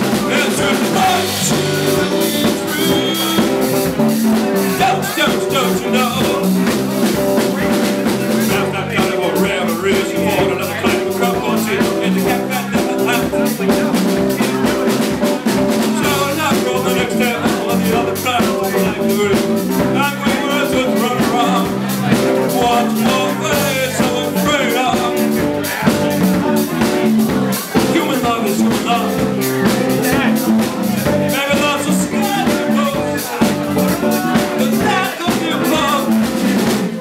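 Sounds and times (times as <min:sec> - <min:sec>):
drum kit: 0:00.0 - 0:37.0
electric bass: 0:00.0 - 0:37.0
keyboard: 0:00.0 - 0:37.0
man singing: 0:00.0 - 0:37.0.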